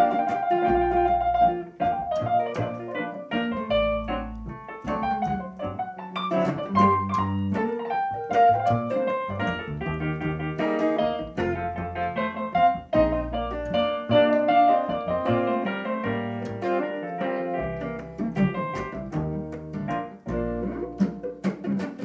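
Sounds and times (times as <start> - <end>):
double bass low notes: 0.0 - 21.7
piano runs and chords: 0.0 - 22.0.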